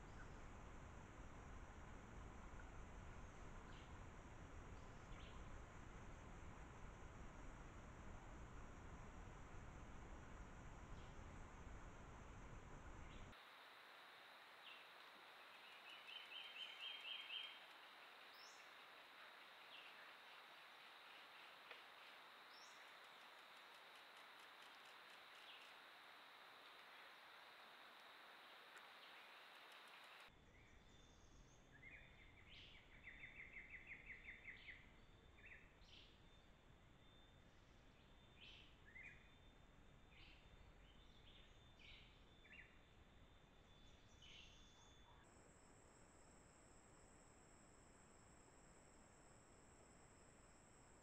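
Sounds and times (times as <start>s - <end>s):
faint bird song: 0.0s - 51.0s
faint steady hiss: 0.0s - 51.0s.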